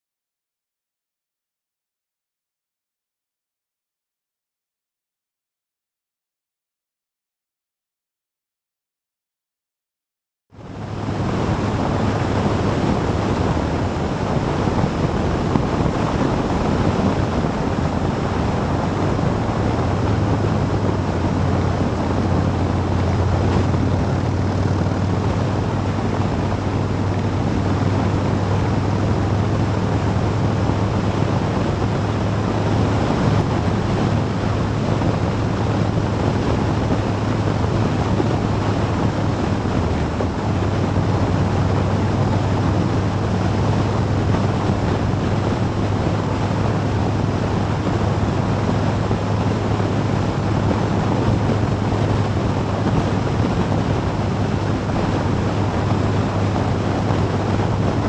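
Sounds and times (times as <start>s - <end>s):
heavy wind noise on microphone: 10.5s - 58.0s
motorcycle engine cruising: 10.6s - 58.0s.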